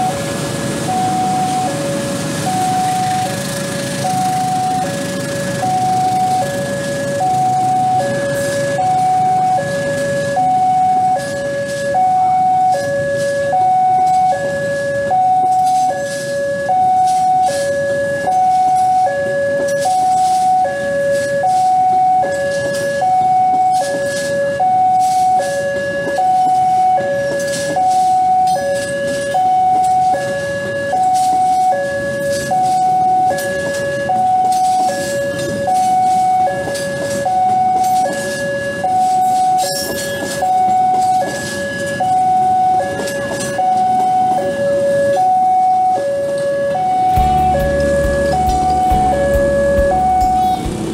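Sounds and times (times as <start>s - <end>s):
train coaches rumbling past: 0.0s - 45.5s, 46.2s - 50.9s
two-tone warning chime: 0.0s - 50.9s.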